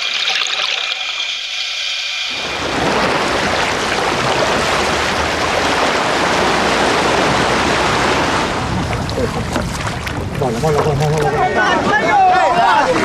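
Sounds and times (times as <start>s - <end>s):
sea water churning and splashing: 0.0s - 13.0s.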